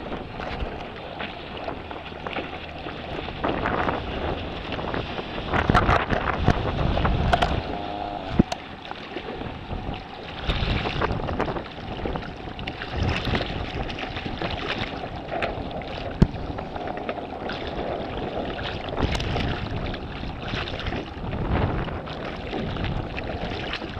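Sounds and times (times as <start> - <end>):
lake water washing: 0.0 - 23.9
wind buffeting microphone: 0.0 - 23.9.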